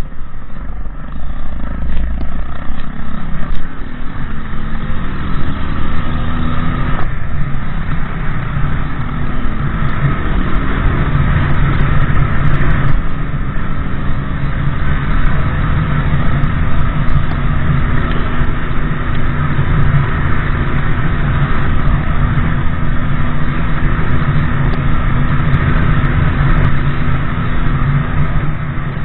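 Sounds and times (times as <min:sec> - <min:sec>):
motorbike engine running: 0:00.0 - 0:29.0.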